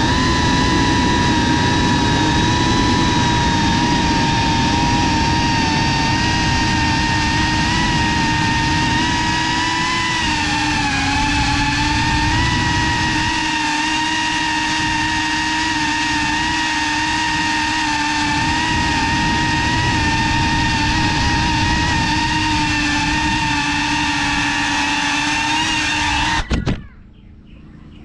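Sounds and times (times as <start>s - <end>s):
wind rush: 0.0s - 26.6s
drone motors whining: 0.0s - 26.9s.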